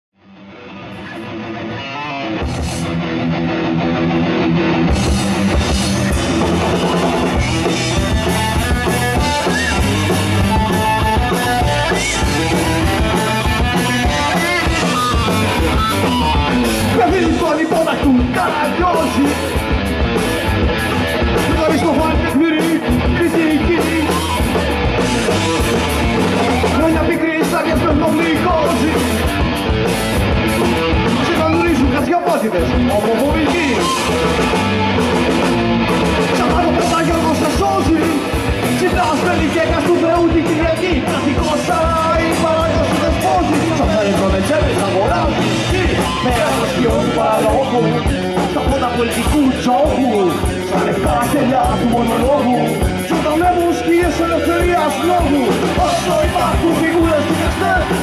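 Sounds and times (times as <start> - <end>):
live rock band playing: 0.2 - 58.0.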